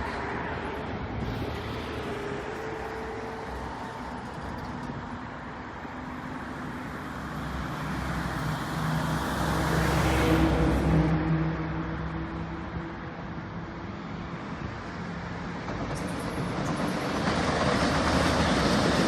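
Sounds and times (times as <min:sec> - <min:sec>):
diesel locomotive engine humming: 0:00.0 - 0:19.0.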